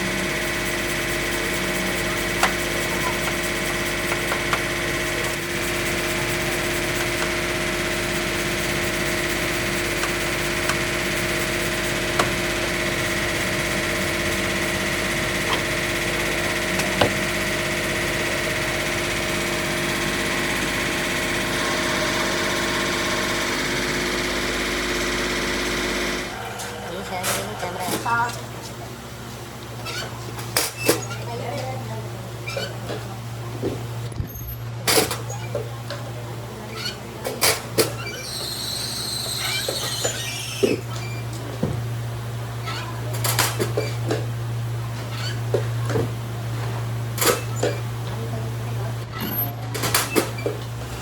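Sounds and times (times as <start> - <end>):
machine motor humming: 0.0 - 51.0.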